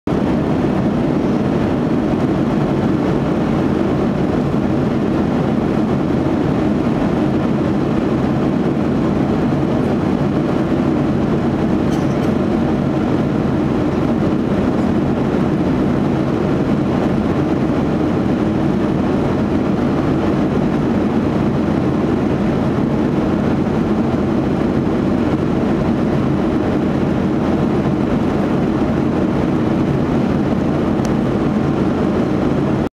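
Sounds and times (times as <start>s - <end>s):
airplane cabin engine rush: 0.1s - 32.9s.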